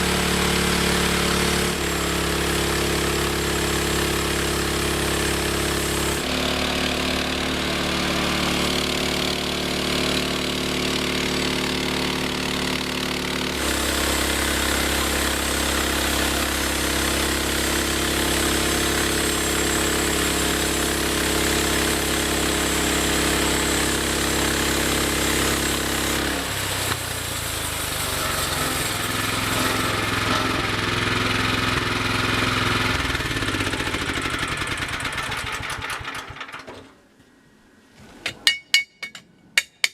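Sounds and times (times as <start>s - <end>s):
sawmill engine running: 0.0s - 36.6s.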